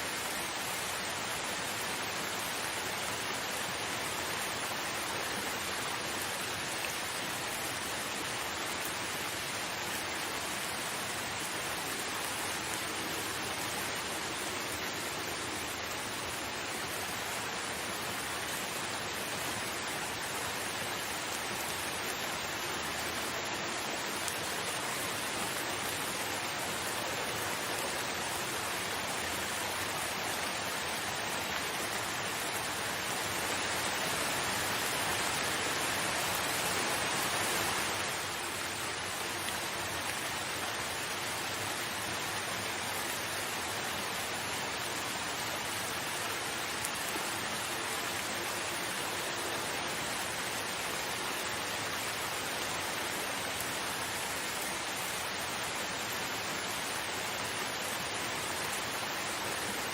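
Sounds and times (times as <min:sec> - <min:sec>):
rainfall hiss: 0:00.0 - 0:59.9.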